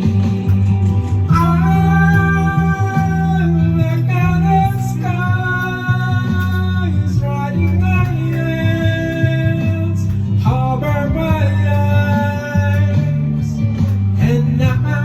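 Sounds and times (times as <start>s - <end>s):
karaoke backing music: 0.0s - 15.0s.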